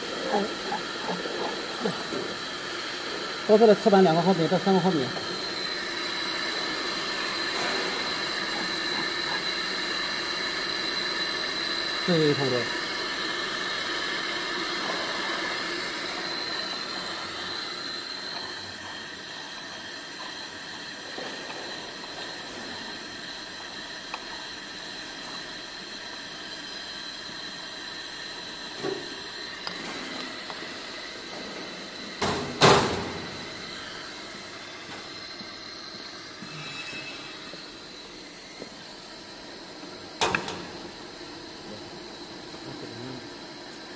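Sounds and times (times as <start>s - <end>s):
machine humming: 0.0s - 43.9s.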